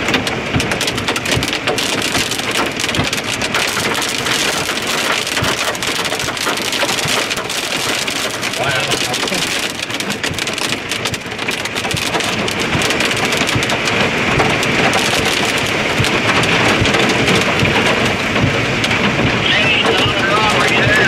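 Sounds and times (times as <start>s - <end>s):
hail and heavy rain pelting: 0.0s - 21.0s.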